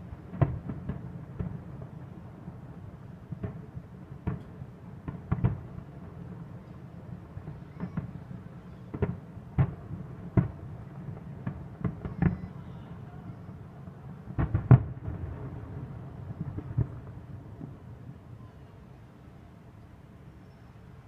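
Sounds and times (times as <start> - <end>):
distant fireworks booming: 0.0 - 18.6.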